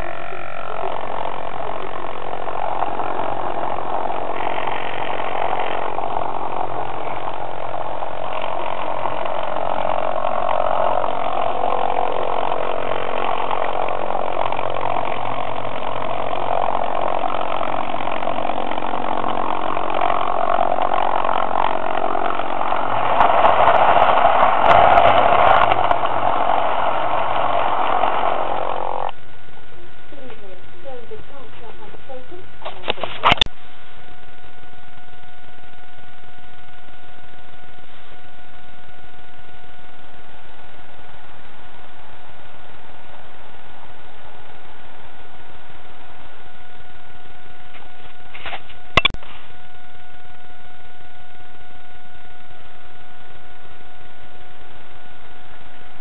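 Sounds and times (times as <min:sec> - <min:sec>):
model train electric motor running: 0:00.0 - 0:56.0.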